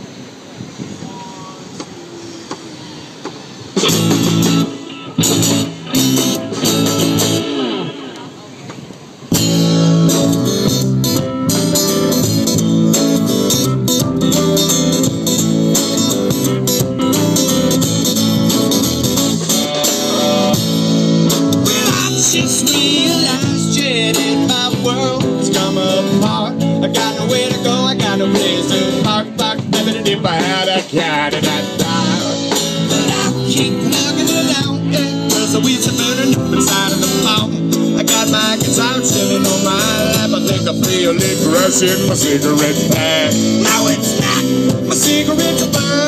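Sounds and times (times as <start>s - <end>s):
live band with guitars: 0.0s - 46.0s.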